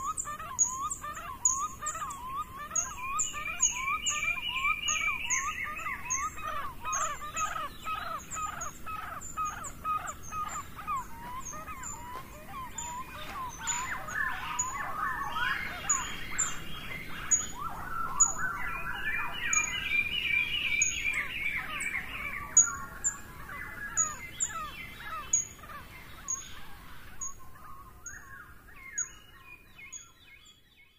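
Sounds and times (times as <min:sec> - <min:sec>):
bird warbling song: 0:00.0 - 0:30.9.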